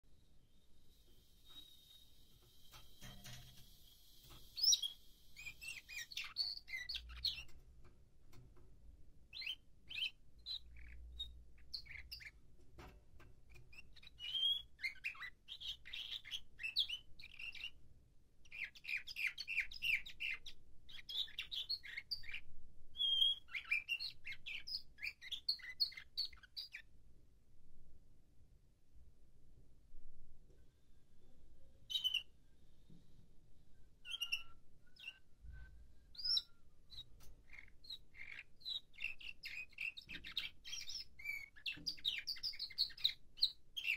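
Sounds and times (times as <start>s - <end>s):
canary chirping and trilling: 0.4s - 17.8s, 18.4s - 26.9s, 31.8s - 32.4s, 33.9s - 43.9s.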